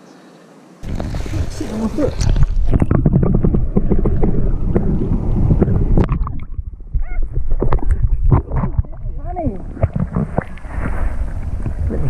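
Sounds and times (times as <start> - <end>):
low wind rumble: 0.8 - 12.0
stream water splashing: 0.8 - 12.0.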